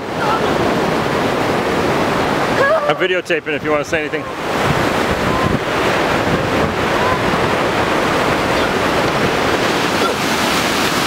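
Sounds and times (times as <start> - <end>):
river rapids rushing over rocks: 0.0 - 11.0.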